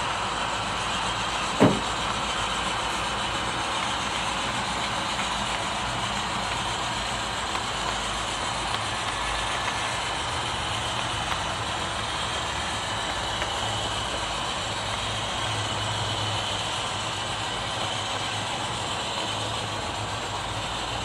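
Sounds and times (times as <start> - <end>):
model locomotive humming: 0.0 - 21.0.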